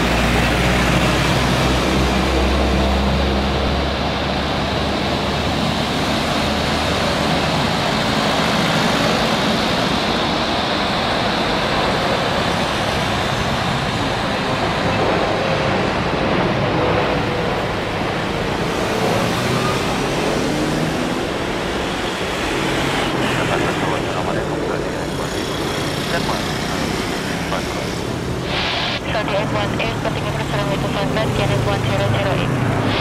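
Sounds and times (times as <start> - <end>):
jet airliner flying low: 0.0 - 33.0.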